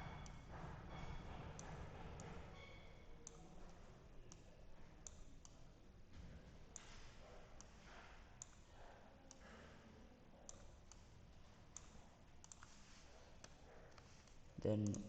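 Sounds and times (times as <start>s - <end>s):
computer mouse clicks: 1.0s - 5.7s, 6.7s - 9.8s, 10.4s - 15.0s.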